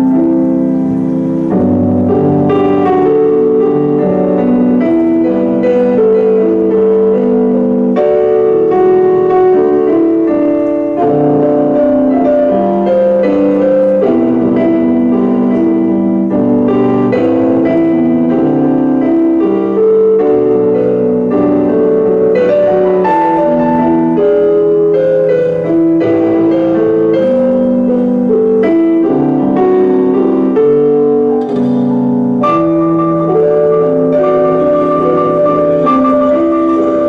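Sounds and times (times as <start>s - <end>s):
electronic keyboard piano chords: 0.0s - 37.0s.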